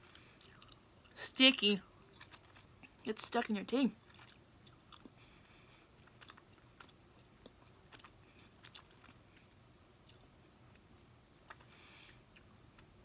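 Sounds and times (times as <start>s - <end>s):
person chewing with wet clicks: 0.1s - 3.3s, 4.0s - 13.0s.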